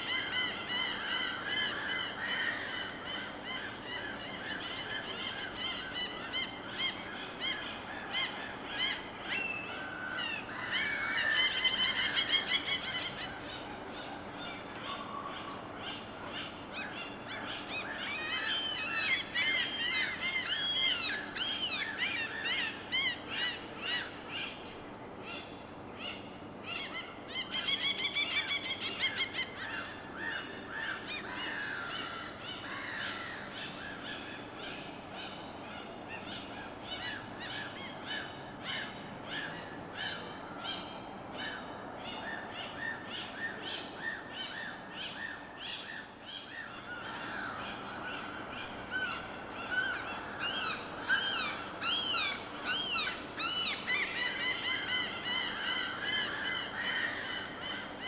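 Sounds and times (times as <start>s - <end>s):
birds calling: 0.0s - 24.7s, 25.3s - 58.0s
steady low background noise: 0.0s - 58.0s.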